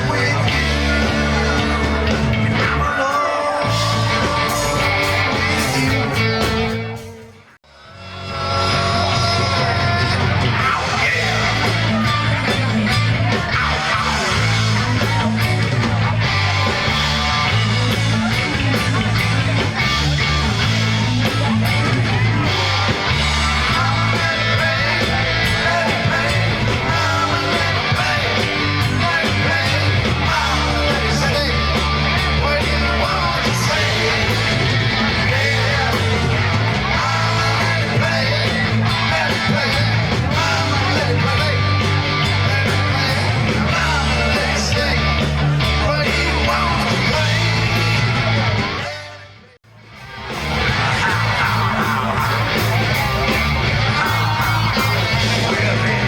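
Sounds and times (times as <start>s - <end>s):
electric guitar: 0.0s - 56.0s
live country rock band: 0.0s - 56.0s
steady bass line: 0.0s - 56.0s.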